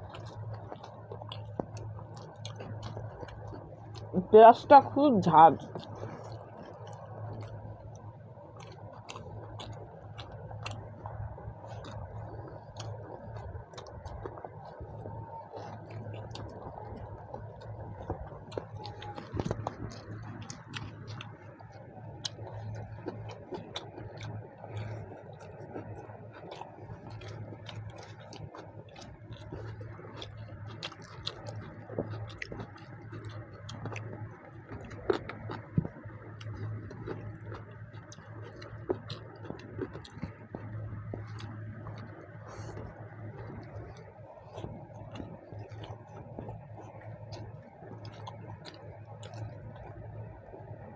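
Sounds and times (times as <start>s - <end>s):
people chewing and eating: 0.0s - 50.9s
steady low hum: 0.0s - 50.9s.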